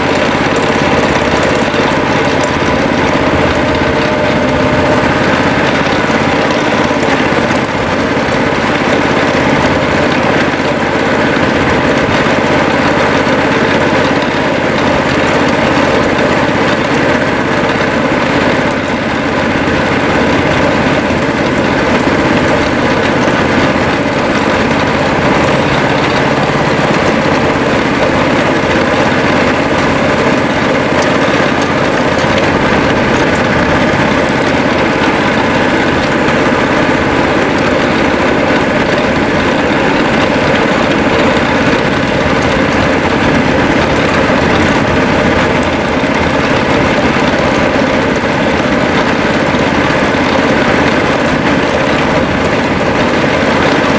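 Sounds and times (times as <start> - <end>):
small locomotive engine running: 0.0 - 53.9.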